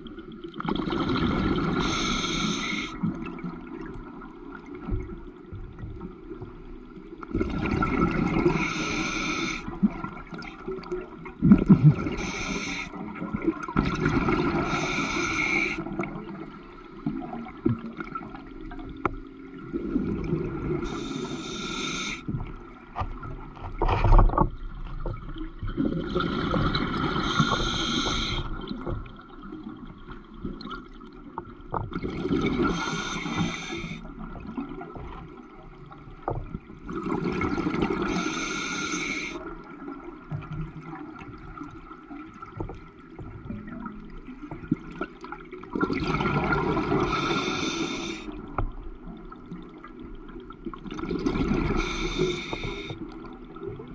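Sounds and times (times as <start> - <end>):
exhaled bubbles gurgling: 0.0 - 53.9.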